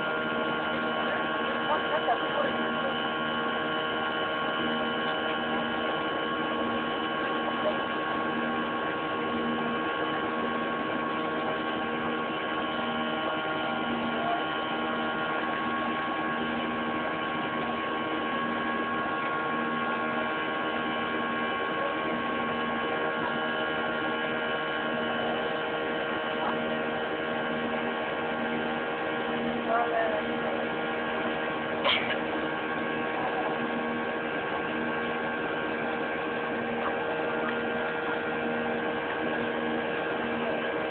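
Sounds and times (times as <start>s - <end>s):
jet engine drone in cabin: 0.0s - 40.9s.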